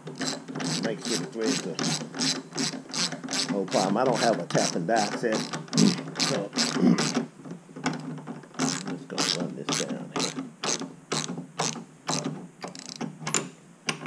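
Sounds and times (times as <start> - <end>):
hand ratchet clicking: 0.0 - 14.0.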